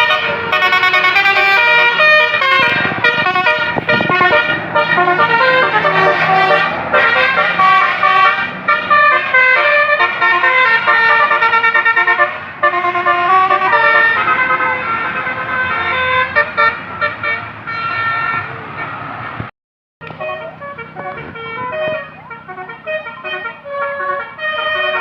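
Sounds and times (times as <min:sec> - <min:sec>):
musical bus horn melody: 0:00.0 - 0:19.0, 0:20.0 - 0:25.0.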